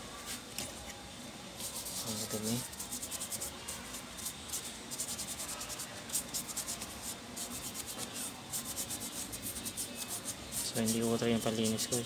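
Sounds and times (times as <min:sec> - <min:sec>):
scrubbing plastic fan: 0:01.6 - 0:12.0.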